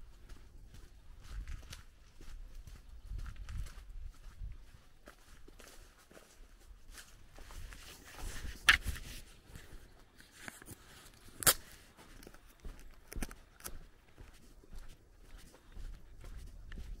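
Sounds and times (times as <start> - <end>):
footsteps on gravel: 0.2 - 17.0.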